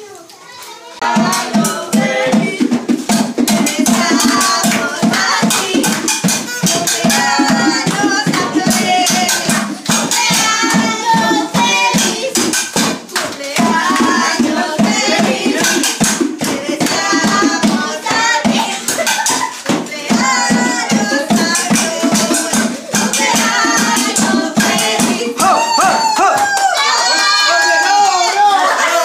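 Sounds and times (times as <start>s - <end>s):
rhythmic hand clapping: 0.5s - 29.0s
group of people singing: 0.9s - 26.3s.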